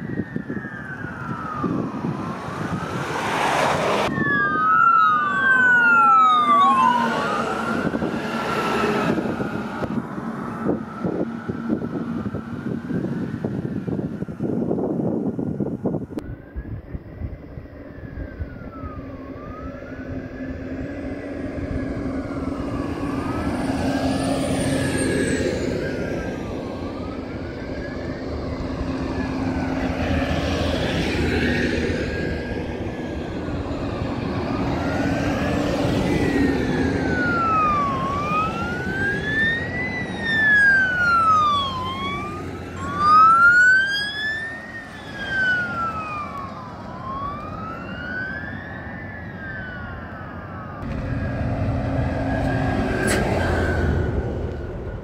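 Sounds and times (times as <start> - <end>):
second siren: 0.0 - 14.3, 15.4 - 55.0
fire truck engine passing: 0.0 - 55.0
sirens wailing: 0.0 - 55.0.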